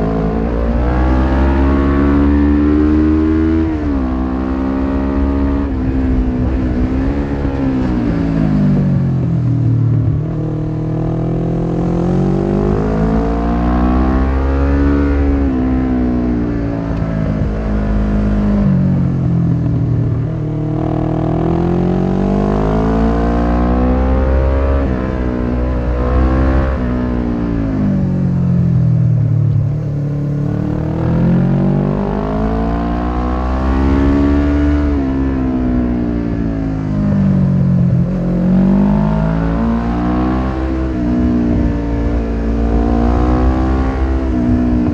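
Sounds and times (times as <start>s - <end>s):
low wind rumble: 0.0s - 44.9s
motorcycle engine accelerating: 0.0s - 44.9s.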